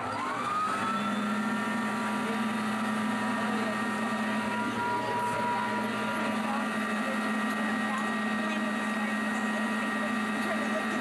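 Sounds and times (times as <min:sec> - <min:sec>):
piston aircraft engine droning: 0:00.0 - 0:11.0.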